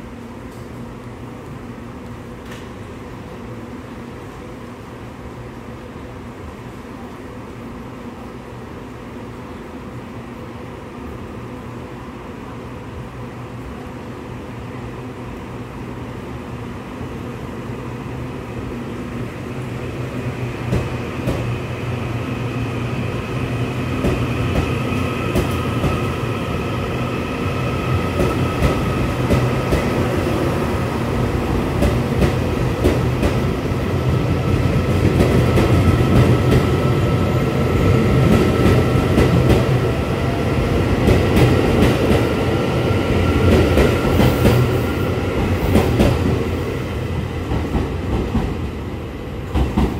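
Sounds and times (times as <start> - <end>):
train rumble: 0.0 - 49.9.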